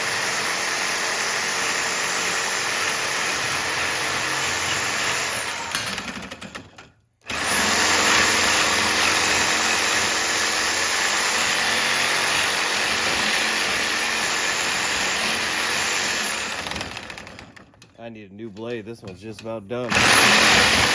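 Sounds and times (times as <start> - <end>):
reciprocating saw cutting metal: 0.0 - 6.3, 7.3 - 17.4, 19.8 - 20.9.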